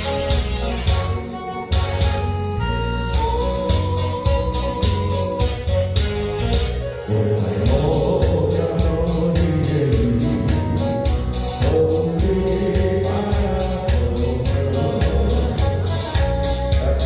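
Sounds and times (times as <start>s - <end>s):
song with drum beat and bass: 0.0s - 17.0s.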